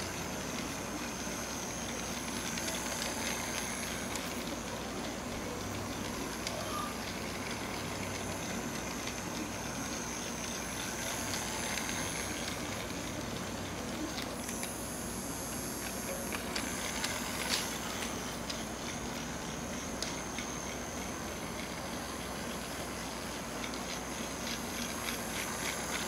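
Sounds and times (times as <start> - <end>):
toy train motor whirring: 0.0 - 26.0
wheels ticking on track: 0.0 - 26.0.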